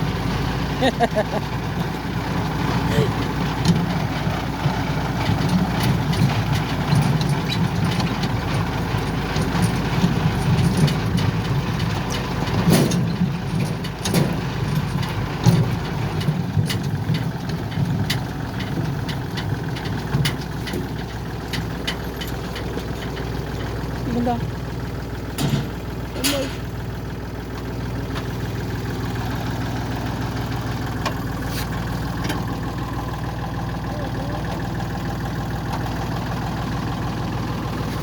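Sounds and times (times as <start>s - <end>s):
combine harvester engine running: 0.0s - 38.0s
clicks and rattles: 2.9s - 38.0s.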